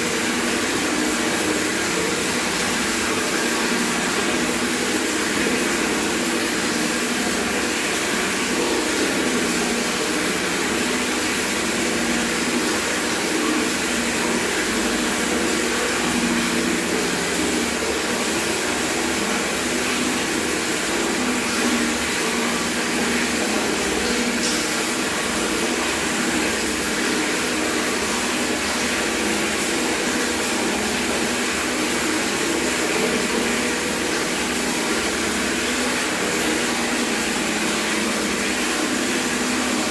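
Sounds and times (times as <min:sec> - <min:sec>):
tap water running into bucket: 0:00.0 - 0:39.9.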